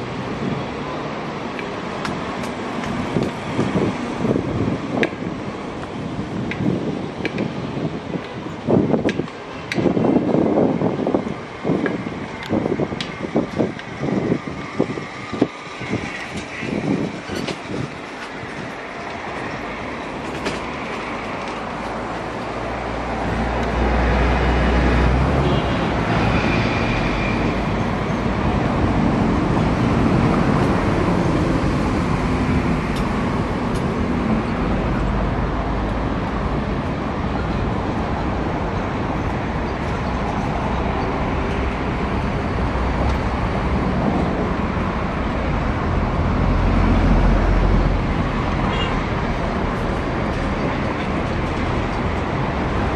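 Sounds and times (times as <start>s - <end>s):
diesel locomotive rumbling: 0.0s - 52.9s.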